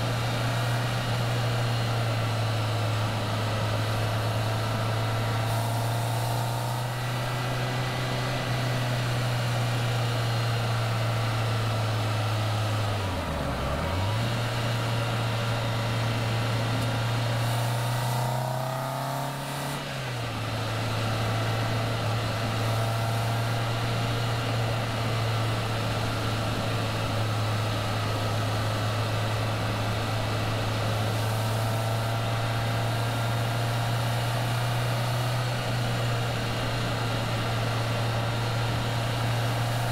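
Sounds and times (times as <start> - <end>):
car engine running: 0.0 - 39.9
wind and road noise: 0.0 - 39.9.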